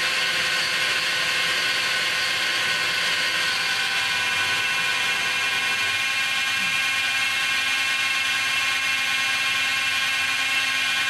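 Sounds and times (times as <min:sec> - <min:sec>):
grinder whining while milling metal: 0:00.0 - 0:11.0.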